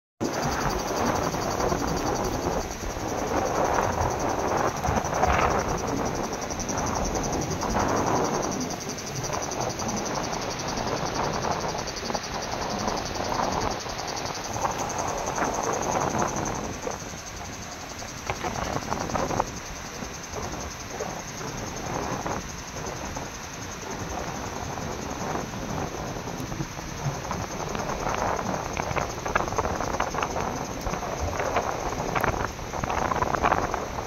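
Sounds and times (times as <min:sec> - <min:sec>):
gusting wind: 0:00.2 - 0:34.0
rough storm surf: 0:00.2 - 0:34.0.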